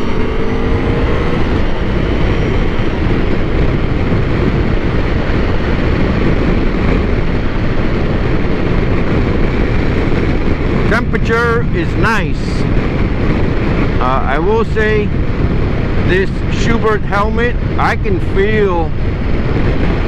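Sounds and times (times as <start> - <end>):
motorcycle engine and road noise: 0.0 - 20.0
wind rush: 0.0 - 20.0.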